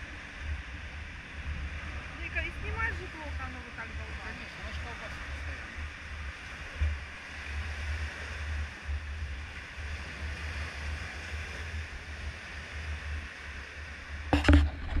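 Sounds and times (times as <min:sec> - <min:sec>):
wind buffeting microphone: 0:00.0 - 0:13.2, 0:14.3 - 0:15.0
waves washing onto beach: 0:00.0 - 0:15.0.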